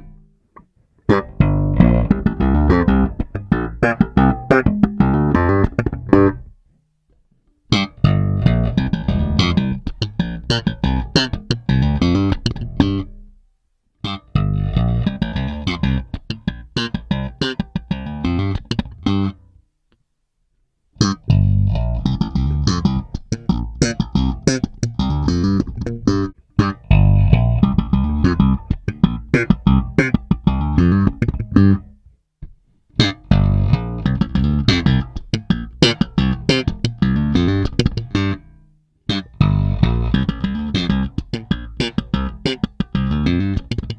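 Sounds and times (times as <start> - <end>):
slap bass playing: 1.1 - 6.6, 7.7 - 13.3, 14.0 - 19.4, 21.0 - 32.0, 33.0 - 43.9.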